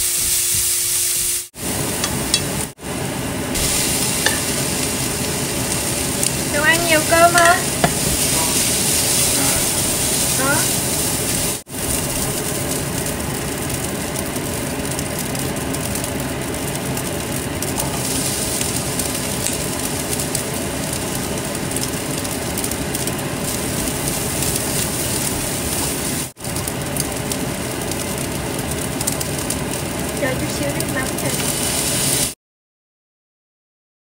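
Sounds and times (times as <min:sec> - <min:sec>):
rice sizzling in a wok: 0:00.0 - 0:32.4.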